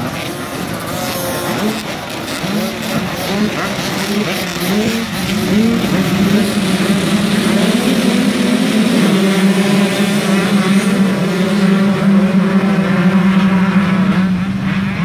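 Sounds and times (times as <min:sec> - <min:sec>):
dirt bike engines droning: 0:00.0 - 0:15.0.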